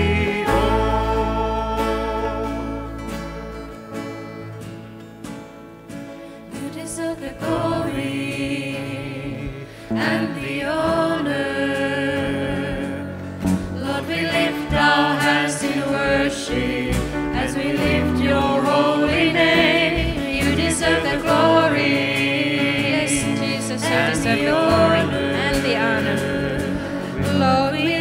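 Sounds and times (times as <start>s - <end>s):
people singing a praise song: 0.0s - 3.4s, 6.6s - 28.0s
acoustic guitar: 0.0s - 28.0s
keyboard: 0.0s - 28.0s.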